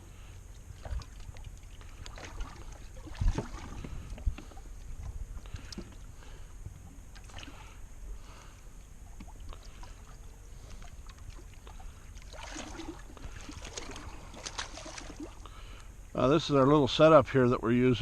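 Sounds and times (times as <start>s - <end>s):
boat low rumble: 0.0s - 18.0s.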